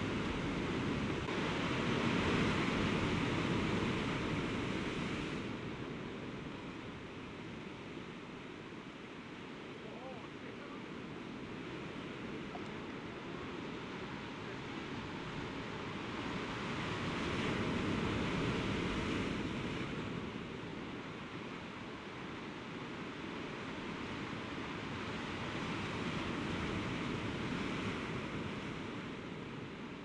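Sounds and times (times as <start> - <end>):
sea surf on rocky shore: 0.0 - 30.0.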